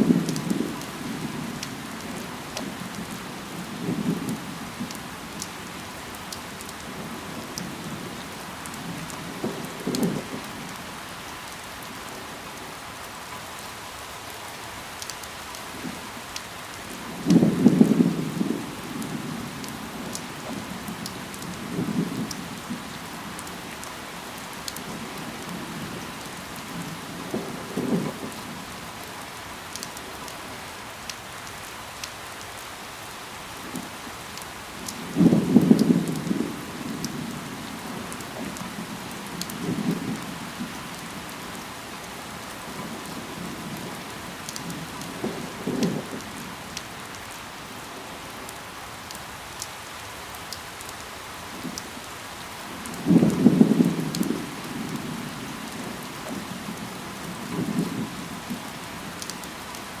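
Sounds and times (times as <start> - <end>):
raindrops ticking: 0.0 - 60.0
steady rain falling: 0.0 - 60.0.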